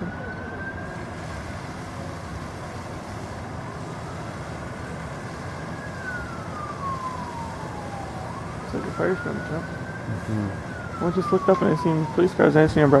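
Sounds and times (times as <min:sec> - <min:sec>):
emergency siren wailing: 0:00.0 - 0:13.0
road and engine noise: 0:00.0 - 0:13.0.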